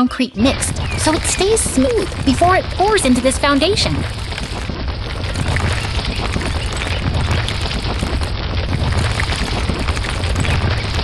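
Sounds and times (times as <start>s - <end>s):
gritty rushing crackle: 0.5s - 11.0s.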